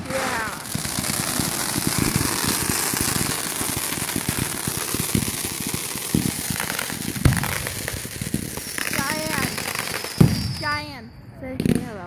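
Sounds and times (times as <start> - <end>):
crackling hiss: 0.0 - 10.8
fireworks pops and booms: 0.0 - 11.0, 11.6 - 12.0.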